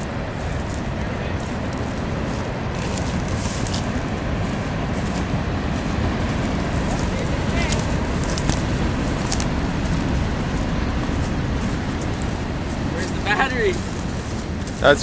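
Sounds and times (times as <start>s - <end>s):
footsteps crunching dry grass: 0.0s - 15.0s
wind buffeting microphone: 0.0s - 15.0s.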